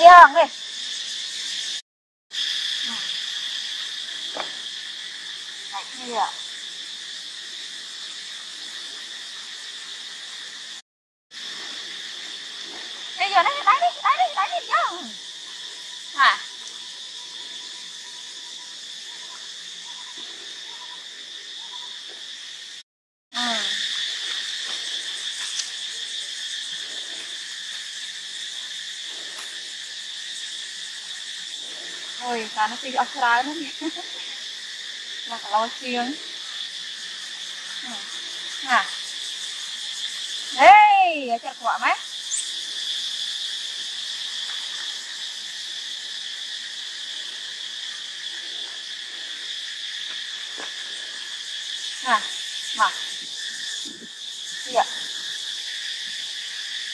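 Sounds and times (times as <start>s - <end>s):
insect chorus drone: 0.0s - 56.9s.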